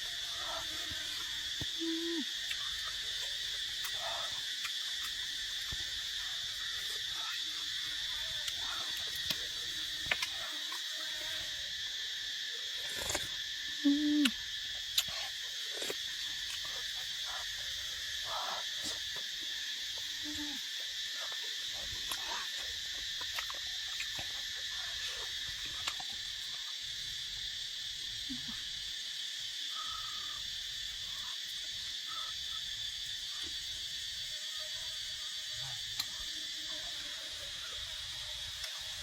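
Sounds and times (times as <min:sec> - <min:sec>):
insect chorus trilling: 0:00.0 - 0:39.0.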